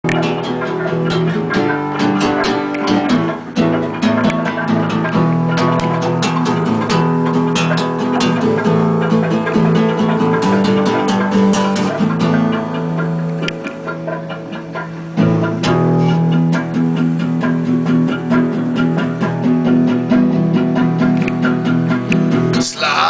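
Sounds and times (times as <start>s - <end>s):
guitar music with bass: 0.0s - 23.0s.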